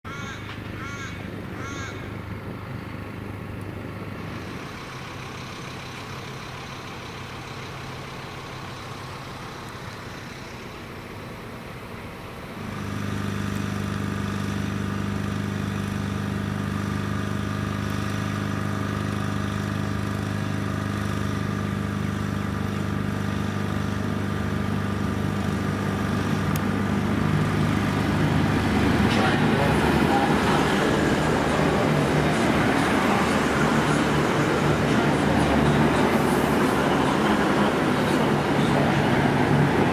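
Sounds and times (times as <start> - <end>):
diesel train engine humming: 0.0 - 39.9.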